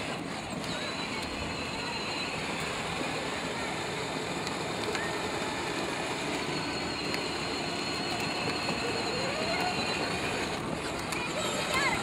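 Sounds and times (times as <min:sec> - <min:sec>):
electric gear motors humming: 0:00.0 - 0:12.0
plastic wheels rumbling on asphalt: 0:00.0 - 0:12.0.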